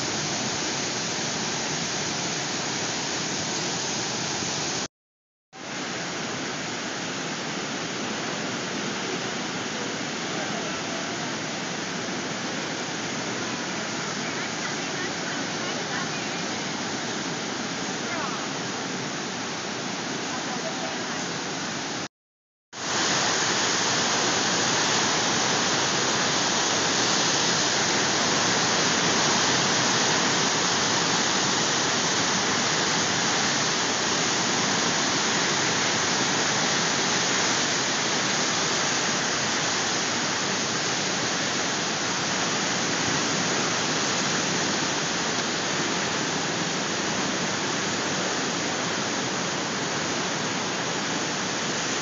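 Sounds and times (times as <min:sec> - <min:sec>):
river rushing through rapids: 0:00.0 - 0:04.9, 0:05.6 - 0:22.1, 0:22.8 - 0:52.0.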